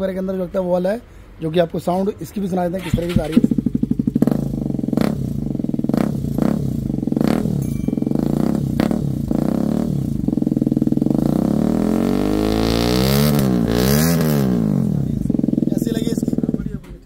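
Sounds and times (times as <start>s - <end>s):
motorcycle engine idling and revving: 1.8s - 17.0s.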